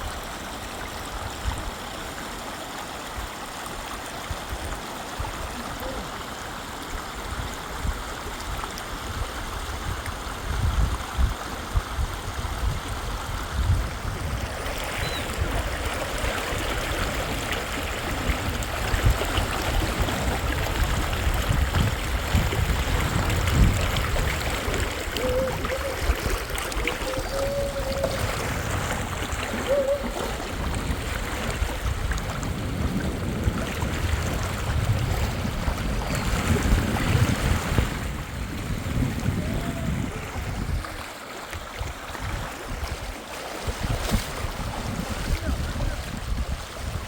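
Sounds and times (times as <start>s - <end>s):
rushing river water: 0.0s - 47.0s.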